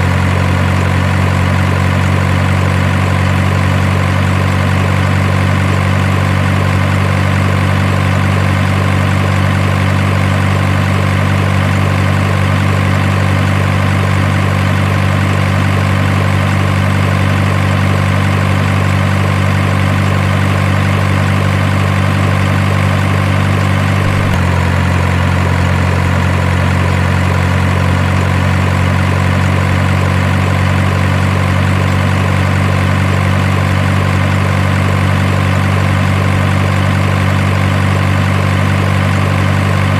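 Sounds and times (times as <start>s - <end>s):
heavy truck engine idling: 0.0s - 39.9s.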